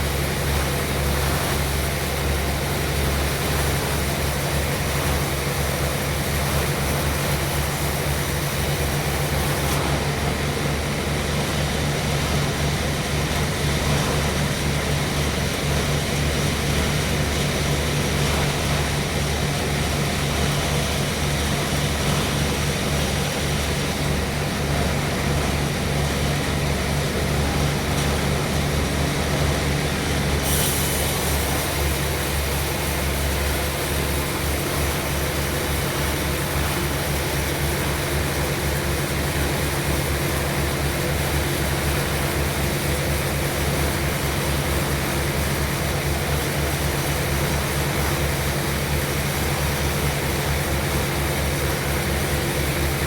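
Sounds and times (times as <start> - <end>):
sawmill machinery pulsing drone: 0.0 - 53.0.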